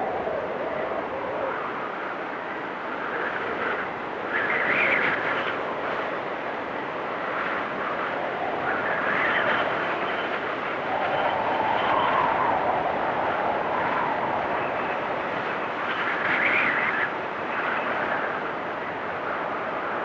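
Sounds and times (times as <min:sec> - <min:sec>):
blizzard wind whistling: 0:00.0 - 0:20.0.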